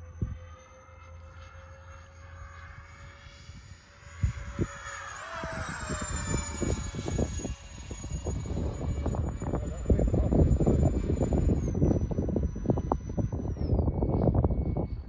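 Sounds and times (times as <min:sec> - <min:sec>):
model jet engine whine passing: 0:00.0 - 0:15.0
wind buffeting microphone: 0:02.9 - 0:15.0.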